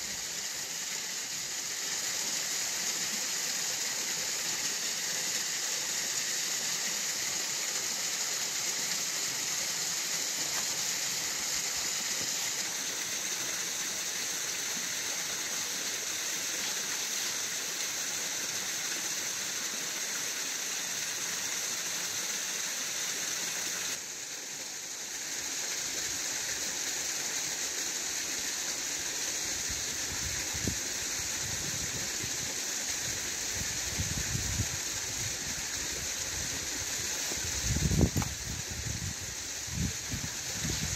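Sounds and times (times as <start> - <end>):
waterfall rushing over rocks: 0.0 - 40.9.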